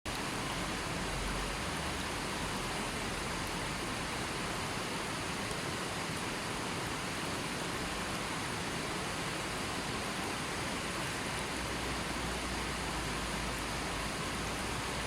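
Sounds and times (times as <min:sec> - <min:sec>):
river flowing over stones: 0:00.1 - 0:15.0.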